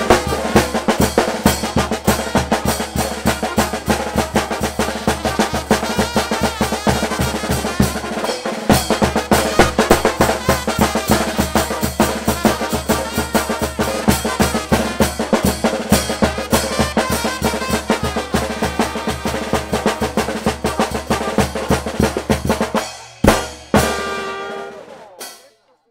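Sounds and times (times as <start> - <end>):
bass drum and snare beat: 0.0 - 25.6
brass band playing dance tune: 0.0 - 25.6.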